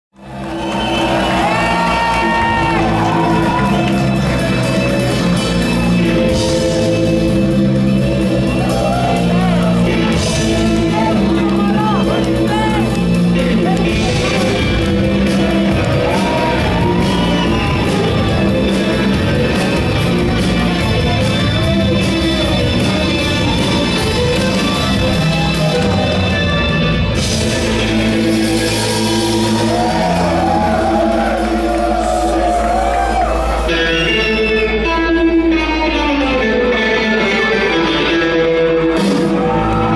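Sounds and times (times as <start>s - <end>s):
drums: 0.1s - 39.9s
electric guitar: 1.1s - 39.9s.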